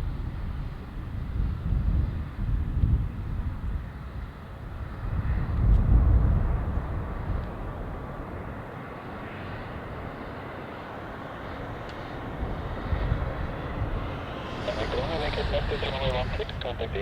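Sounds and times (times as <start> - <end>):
jet engines roaring on landing: 0.0 - 17.0.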